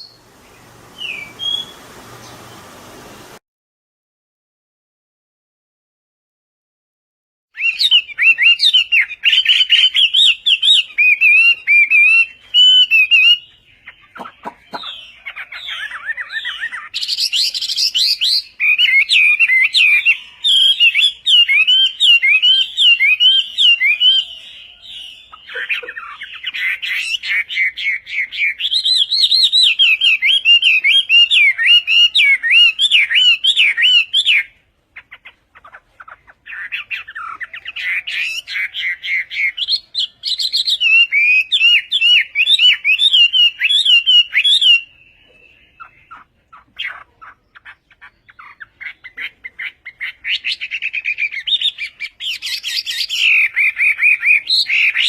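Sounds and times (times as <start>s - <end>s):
songbird singing: 0.0s - 3.4s, 7.6s - 55.0s.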